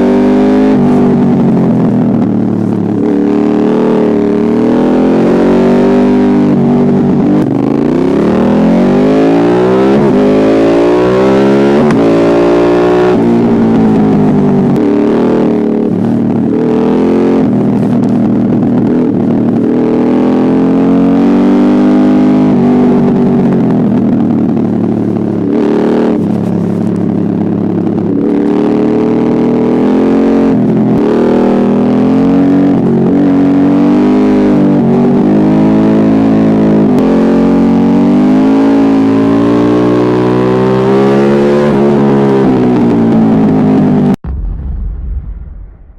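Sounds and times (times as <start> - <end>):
motorcycle engine revving: 0.0 - 44.4.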